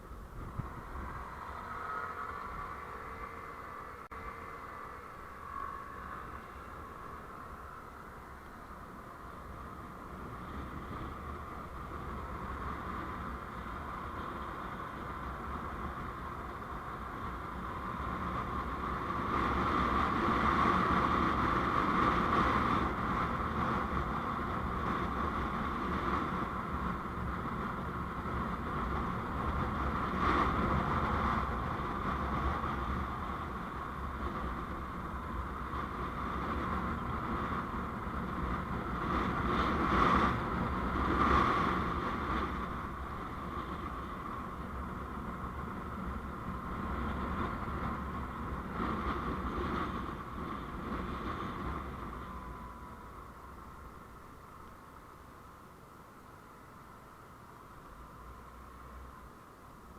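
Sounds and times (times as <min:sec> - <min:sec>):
vehicle road and wind noise: 0:00.0 - 0:59.9.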